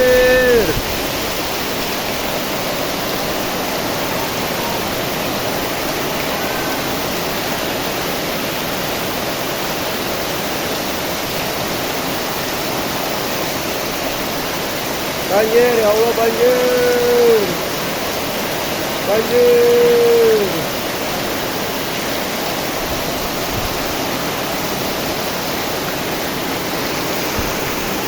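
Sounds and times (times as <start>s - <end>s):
flowing floodwater: 0.0s - 28.0s
heavy rain downpour: 0.0s - 28.0s.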